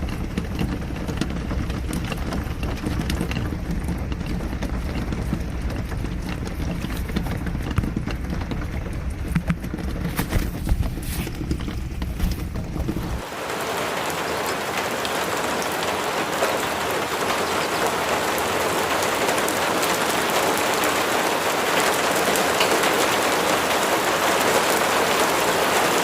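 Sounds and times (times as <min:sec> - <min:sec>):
rain with low rumble: 0:00.0 - 0:26.0.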